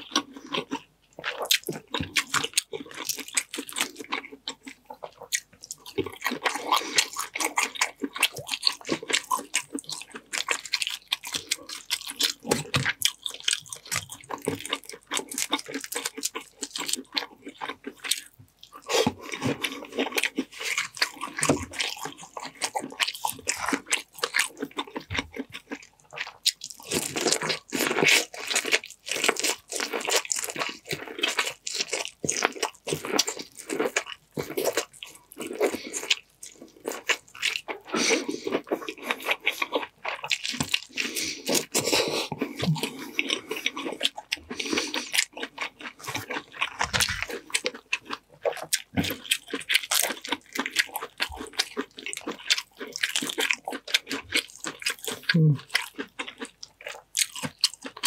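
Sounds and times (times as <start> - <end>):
wet chewing and crunching: 0.0 - 58.0.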